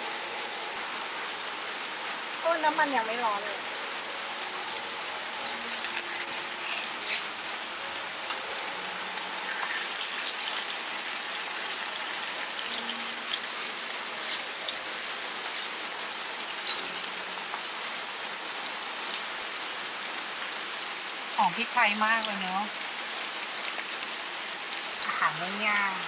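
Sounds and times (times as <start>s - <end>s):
chicken sizzling in oil: 4.4s - 26.0s.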